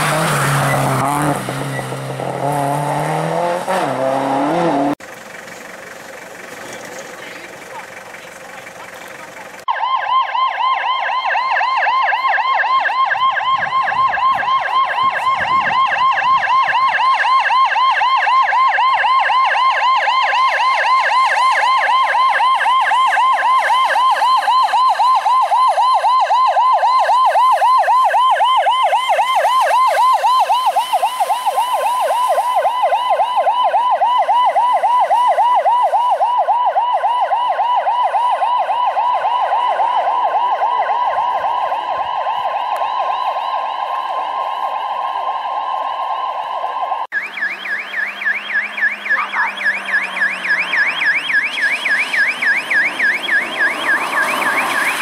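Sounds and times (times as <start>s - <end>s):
electronic siren yelping: 0.0s - 5.0s, 7.2s - 55.0s.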